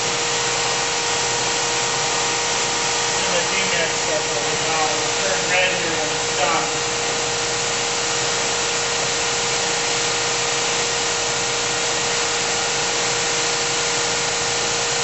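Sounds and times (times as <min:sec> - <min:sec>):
rush of machine noise: 0:00.0 - 0:15.0
surface grinder whine: 0:00.0 - 0:15.0.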